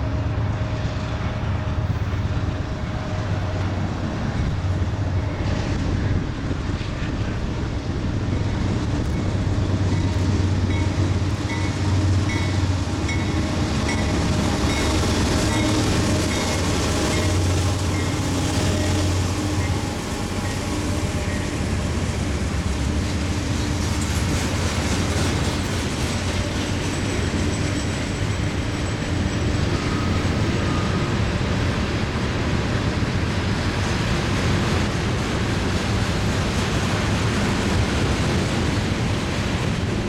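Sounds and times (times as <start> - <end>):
freight train rolling past: 0.0 - 40.0.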